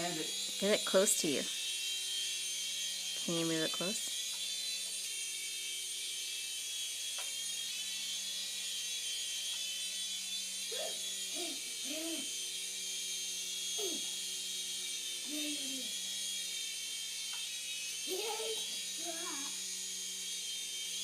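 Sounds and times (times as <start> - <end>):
toy helicopter whirring: 0.0 - 21.0.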